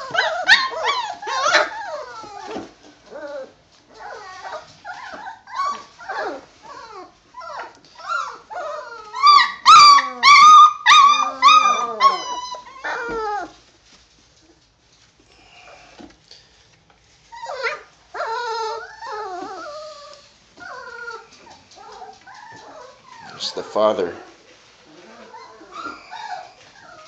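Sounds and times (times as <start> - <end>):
puppies whining and yelping: 0.0 - 13.6, 17.2 - 23.8, 24.8 - 27.0.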